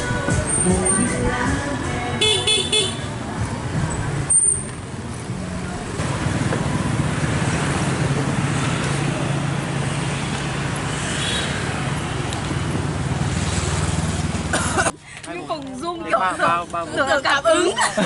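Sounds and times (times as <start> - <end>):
motorbike engines running: 0.0 - 14.9
steady low traffic hum: 0.0 - 18.0.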